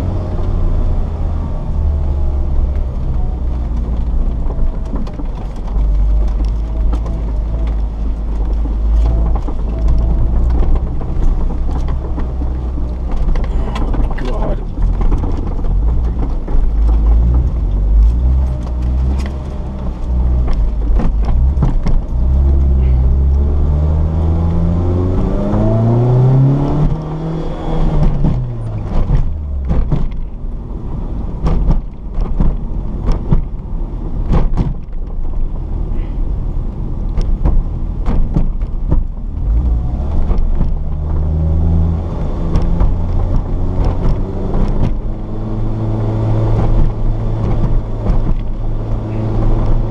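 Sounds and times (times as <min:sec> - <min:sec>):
car engine revving: 0:00.0 - 0:34.6, 0:37.1 - 0:49.9.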